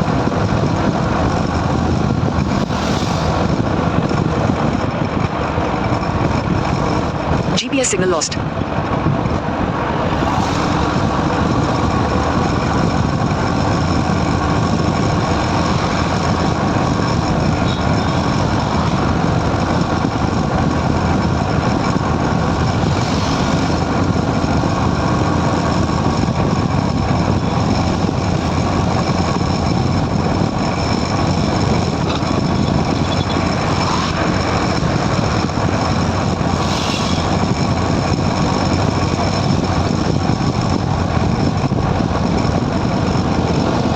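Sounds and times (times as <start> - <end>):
motorcycle engine: 0.0 - 43.9
road and wind noise: 0.0 - 43.9.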